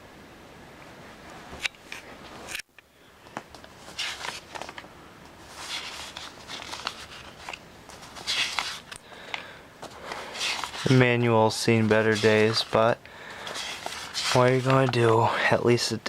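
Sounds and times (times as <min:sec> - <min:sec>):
rustling and handling noises: 0:01.1 - 0:16.0.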